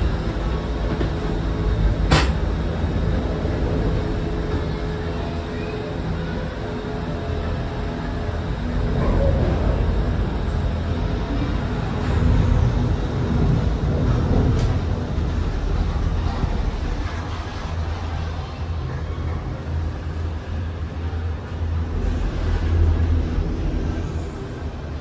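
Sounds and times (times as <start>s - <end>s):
gondola cabin rumbling on cable: 0.0s - 25.0s.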